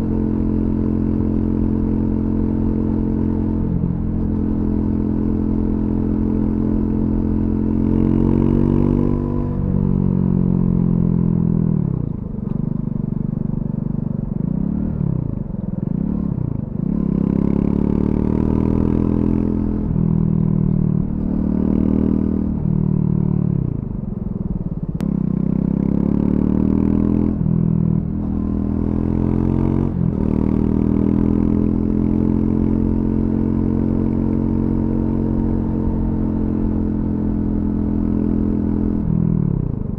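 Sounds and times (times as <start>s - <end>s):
motorcycle engine revving: 0.0s - 12.1s, 13.8s - 24.0s, 25.0s - 39.9s.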